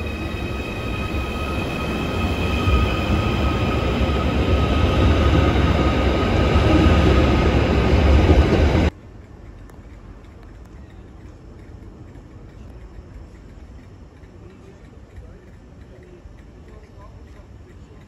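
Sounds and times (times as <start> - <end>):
electric train rumbling: 0.0 - 18.0
faint train whine: 0.0 - 18.0.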